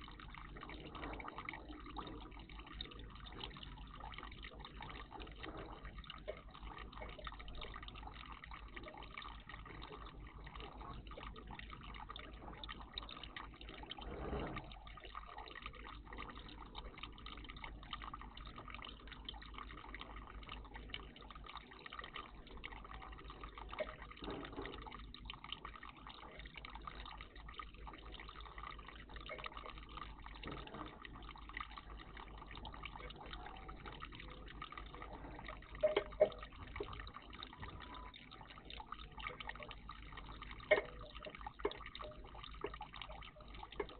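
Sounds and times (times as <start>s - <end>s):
water trickling and dripping: 0.0s - 43.9s.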